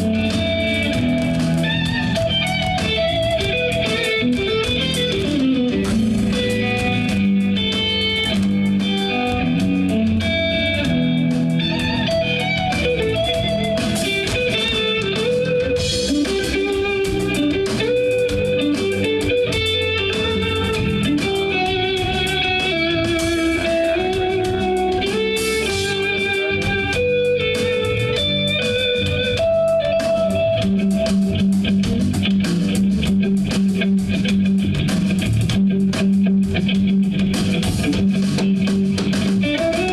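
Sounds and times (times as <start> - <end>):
bass guitar: 0.0 - 39.9
electric guitar melody: 0.0 - 39.9.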